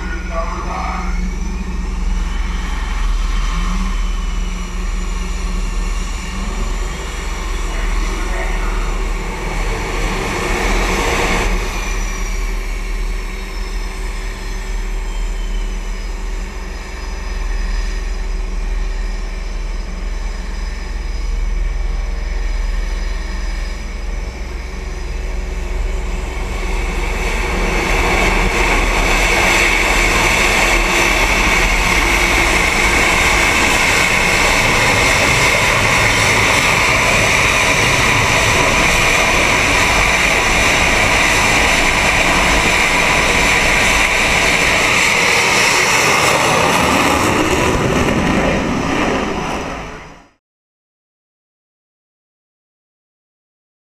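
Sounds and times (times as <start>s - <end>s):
jet engine roar with high whine: 0.0s - 50.4s
jet roar with falling whine: 0.0s - 50.4s.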